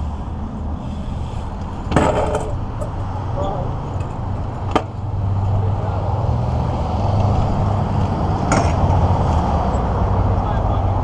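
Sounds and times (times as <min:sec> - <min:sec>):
low vehicle rumble: 0:00.0 - 0:11.0.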